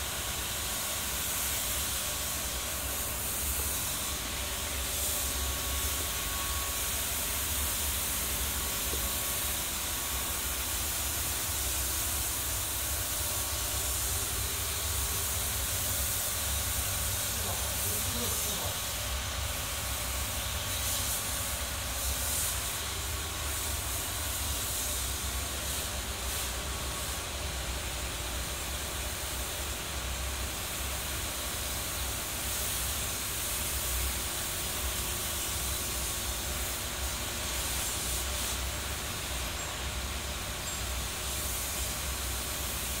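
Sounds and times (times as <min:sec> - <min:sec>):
steady hiss: 0:00.0 - 0:43.0.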